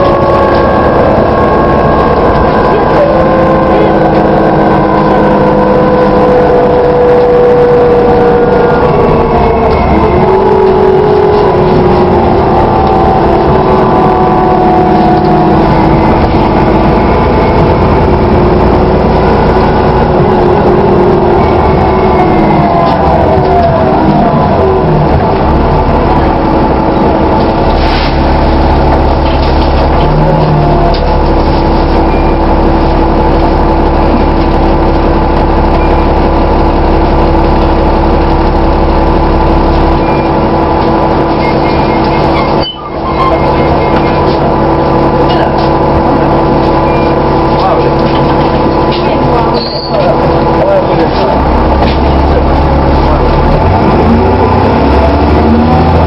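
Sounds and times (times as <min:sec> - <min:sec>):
bus engine running: 0:00.0 - 0:56.0
steady pitched tone: 0:00.0 - 0:56.0
steady whine: 0:00.0 - 0:56.0.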